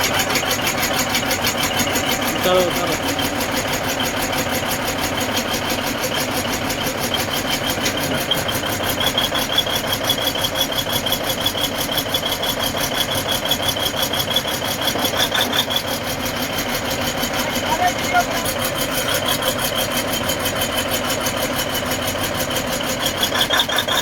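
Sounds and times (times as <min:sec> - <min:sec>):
diesel engine pulsing: 0:00.0 - 0:24.0.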